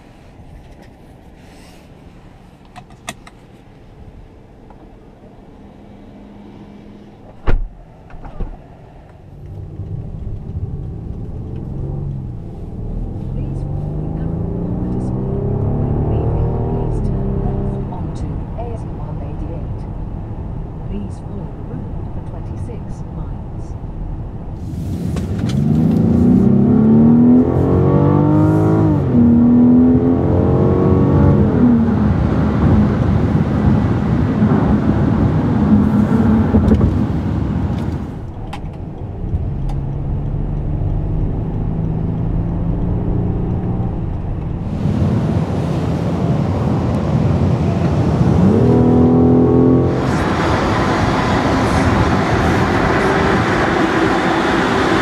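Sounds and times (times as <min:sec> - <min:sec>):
road noise: 0:00.0 - 0:55.0
car engine accelerating: 0:04.4 - 0:23.0, 0:23.6 - 0:55.0.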